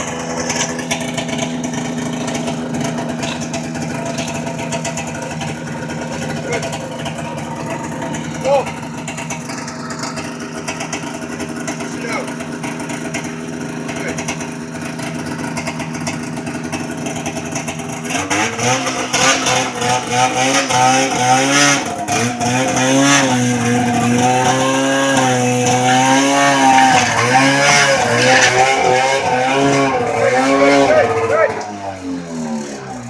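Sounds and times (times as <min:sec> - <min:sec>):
snowmobile engine idling and revving: 0:00.0 - 0:33.0.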